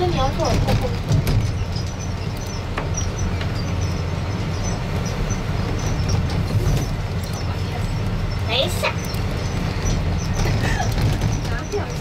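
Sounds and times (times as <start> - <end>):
monorail car rumbling: 0.0 - 12.0.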